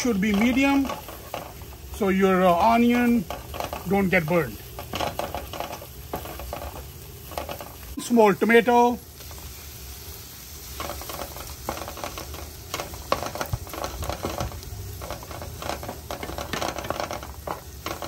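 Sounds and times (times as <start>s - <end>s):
utensil scraping pan: 0.0s - 8.1s, 10.4s - 18.0s
food sizzling in pan: 0.0s - 18.0s.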